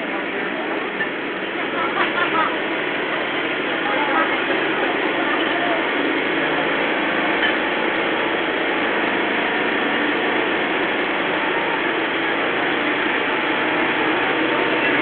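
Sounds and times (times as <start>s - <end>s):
engine clattering and humming: 0.0s - 15.0s.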